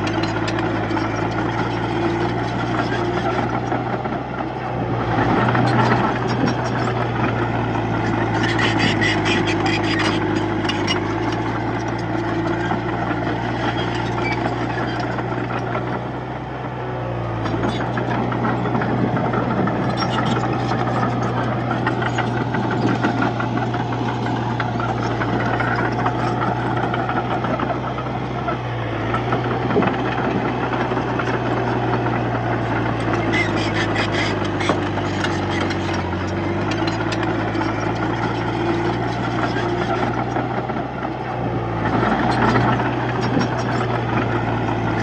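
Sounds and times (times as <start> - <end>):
clatter: 0.0 - 4.5, 5.2 - 16.0, 17.4 - 41.2, 41.8 - 45.0
bulldozer diesel engine under load: 0.0 - 45.0.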